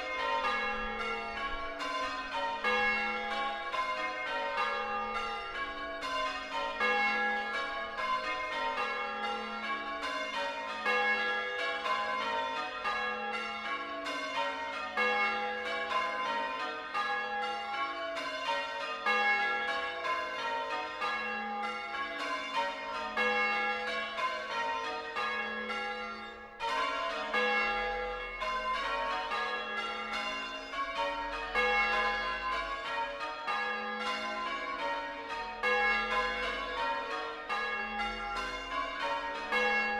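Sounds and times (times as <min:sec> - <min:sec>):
church bells ringing changes: 0:00.0 - 0:39.9.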